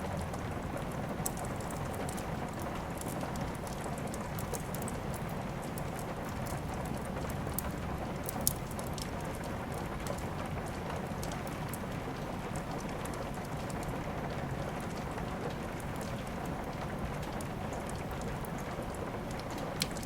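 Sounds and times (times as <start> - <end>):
steady rain: 0.0 - 20.0
wood fire crackling and popping: 0.0 - 20.0.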